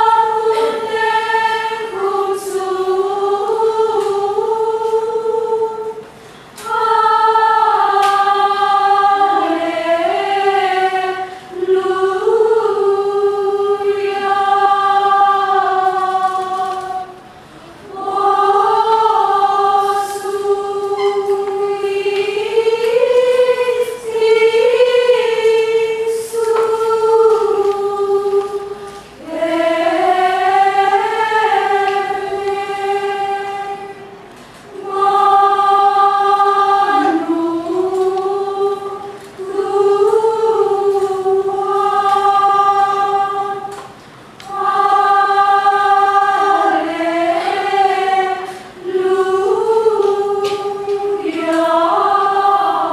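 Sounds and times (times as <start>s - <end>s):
women's choir chanting a cappella: 0.0s - 52.9s.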